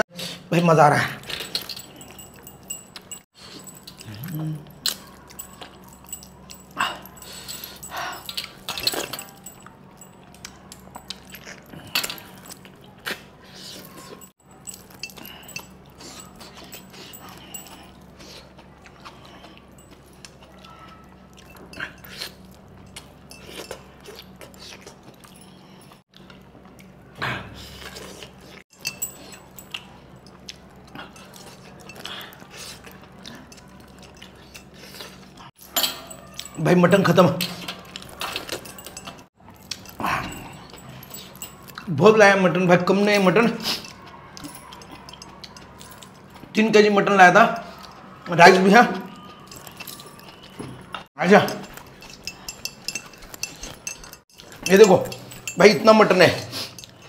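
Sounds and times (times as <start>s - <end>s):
wet chewing and slurping: 1.2s - 35.6s, 37.4s - 41.9s, 43.5s - 46.6s, 49.0s - 55.7s, 56.4s - 57.0s.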